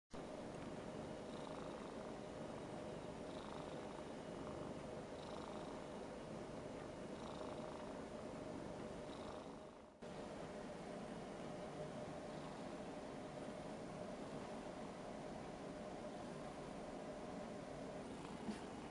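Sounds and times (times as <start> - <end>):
cat purring: 0.2 - 10.0, 11.0 - 18.9.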